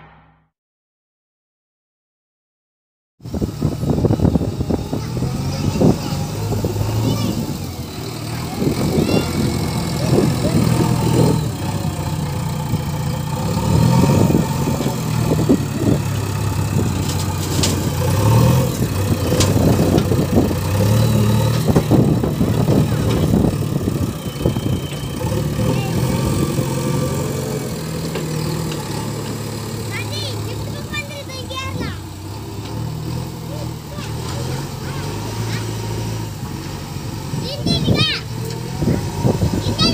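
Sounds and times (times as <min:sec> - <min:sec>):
backhoe diesel engine revving: 0:03.3 - 0:39.9.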